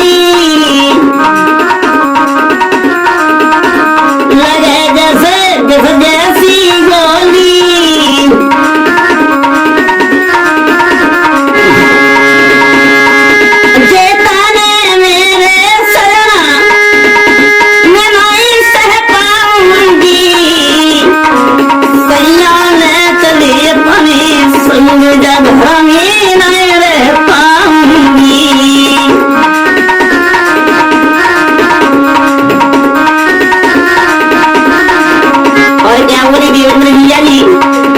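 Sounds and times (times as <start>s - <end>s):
folk music with tabla: 0.0s - 37.9s
percussion: 0.0s - 37.9s
sustained keyboard notes: 0.0s - 37.9s
vibrato melody: 0.0s - 37.9s.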